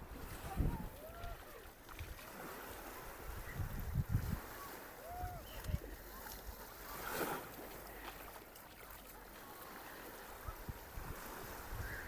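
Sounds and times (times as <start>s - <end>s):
small waves washing onto sand: 0.0s - 12.0s.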